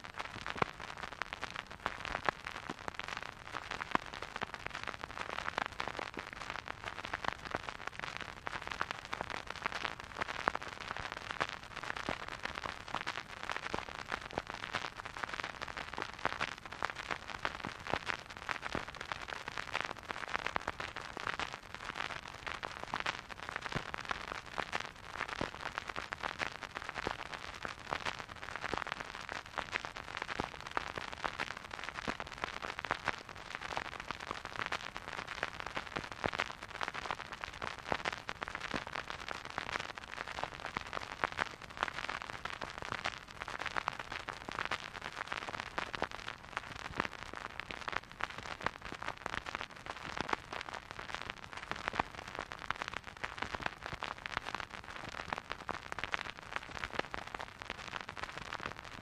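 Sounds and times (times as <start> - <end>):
vinyl record crackle and hiss: 0.0 - 59.0.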